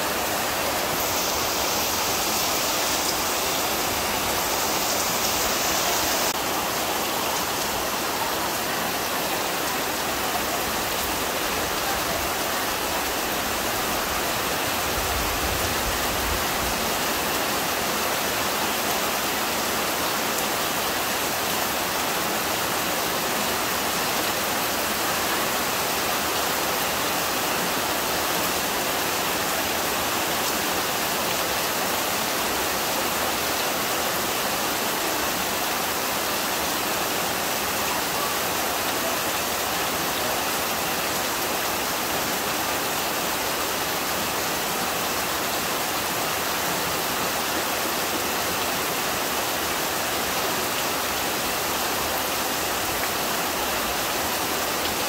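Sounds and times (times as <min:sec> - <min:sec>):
heavy rain pouring: 0:00.0 - 0:55.0
water streaming off roof: 0:00.0 - 0:55.0.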